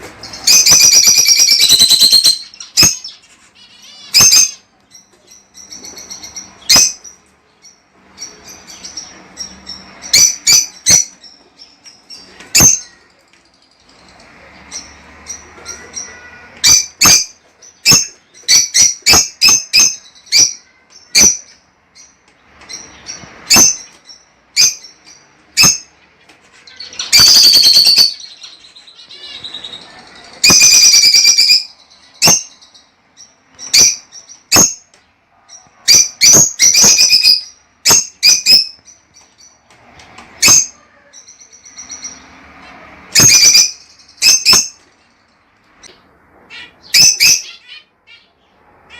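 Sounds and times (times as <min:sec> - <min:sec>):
lovebirds chirping: 0:00.0 - 0:48.9.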